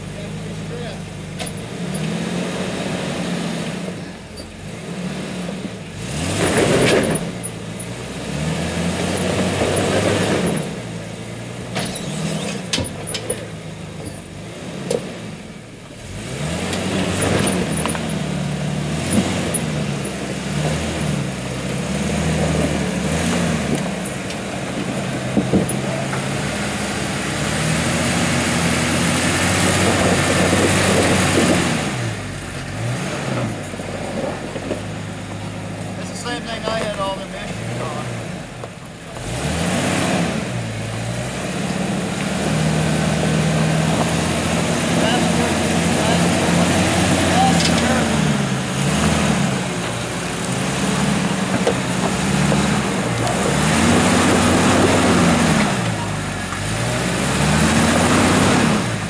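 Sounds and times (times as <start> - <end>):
engine revving in bursts: 0.0 - 59.0.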